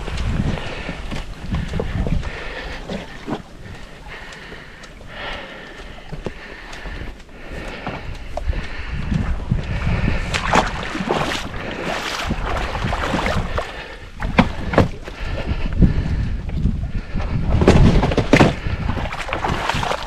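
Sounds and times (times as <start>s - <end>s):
wind rumble on microphone: 0.0s - 5.3s, 6.0s - 20.0s
water sloshing and splashing: 0.0s - 20.0s.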